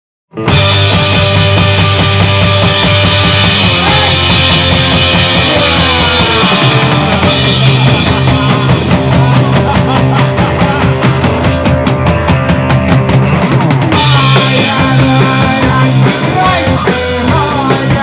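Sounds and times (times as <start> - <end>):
punk rock band playing: 0.3 - 18.0
fast drum beat: 0.5 - 18.0.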